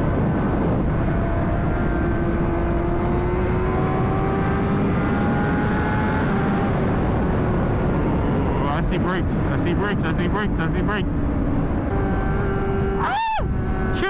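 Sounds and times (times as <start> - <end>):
wind rumble: 0.0 - 14.0.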